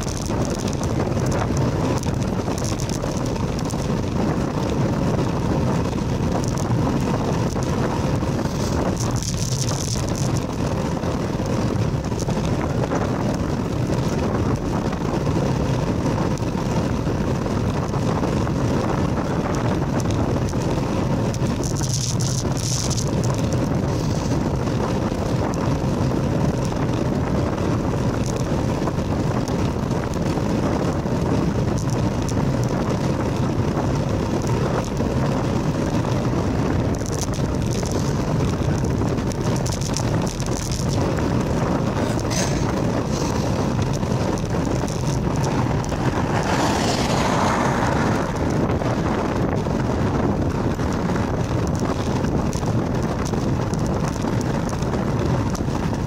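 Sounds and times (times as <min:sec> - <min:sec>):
tyre rumble on asphalt: 0:00.0 - 0:56.0
wind buffeting the microphone: 0:00.0 - 0:56.0.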